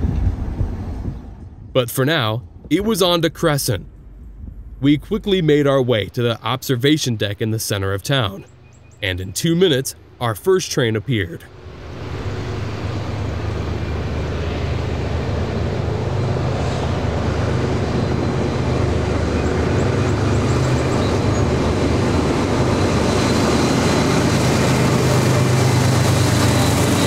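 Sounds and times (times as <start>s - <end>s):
diesel locomotive engines droning: 0.0s - 27.0s.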